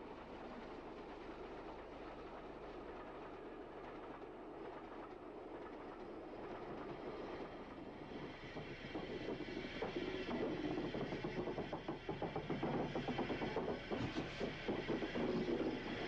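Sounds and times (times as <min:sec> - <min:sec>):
steam locomotive running: 0:00.0 - 0:16.0.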